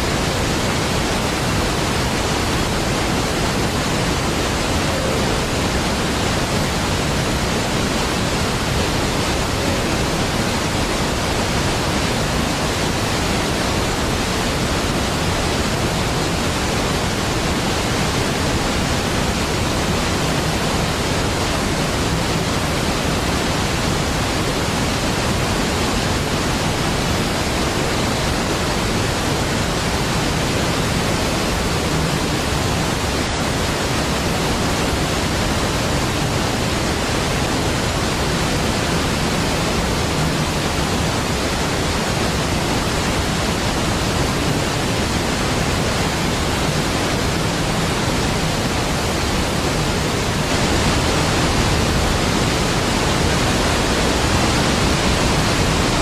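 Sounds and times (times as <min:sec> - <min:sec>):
large waterfall rushing: 0:00.0 - 0:56.0.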